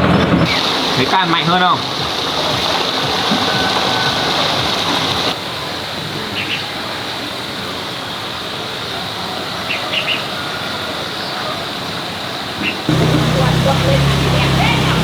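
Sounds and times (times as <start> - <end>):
running water rushing: 0.4 - 9.9, 10.8 - 15.0.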